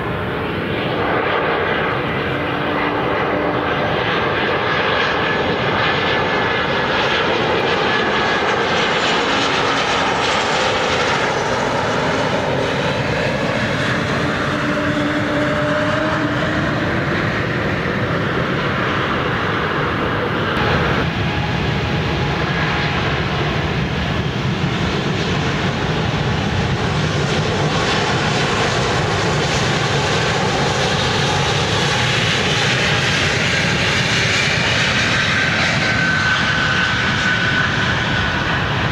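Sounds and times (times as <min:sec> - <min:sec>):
jet engines whining and rumbling: 0:00.0 - 0:38.9.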